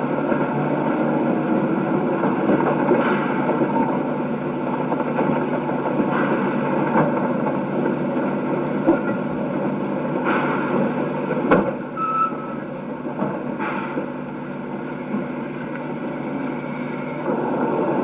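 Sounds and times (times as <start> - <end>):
train carriages rumbling past: 0.0 - 18.0.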